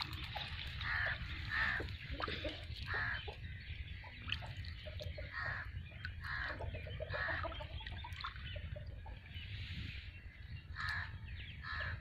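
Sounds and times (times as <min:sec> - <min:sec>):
wind on the microphone: 0:00.0 - 0:12.0.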